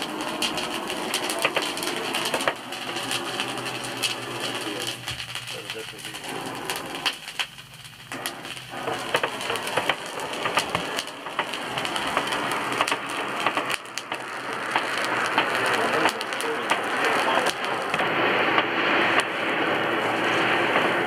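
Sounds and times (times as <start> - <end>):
forge fire crackling: 0.0 - 21.0.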